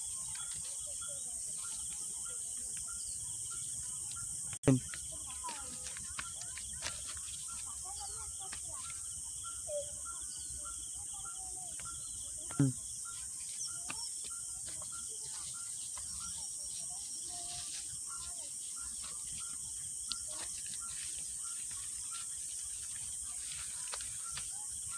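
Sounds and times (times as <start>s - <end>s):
bird chirps: 0.0s - 24.9s
insects droning: 0.0s - 24.9s.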